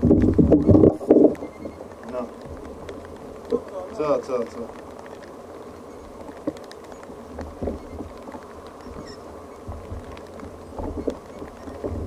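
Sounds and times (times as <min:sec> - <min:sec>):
faint clicks of gear: 0:00.0 - 0:12.0
water lapping against hull: 0:00.0 - 0:12.0
wind rumbling on microphone: 0:00.0 - 0:12.0.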